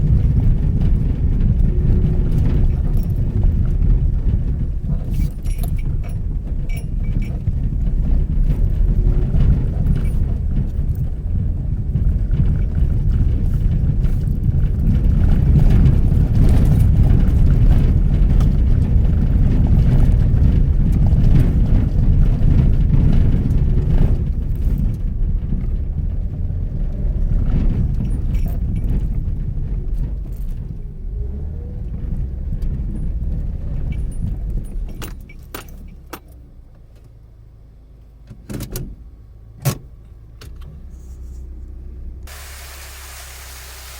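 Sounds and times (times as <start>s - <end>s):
small rattles and clicks: 0.0s - 37.2s
road and engine rumble: 0.0s - 43.9s.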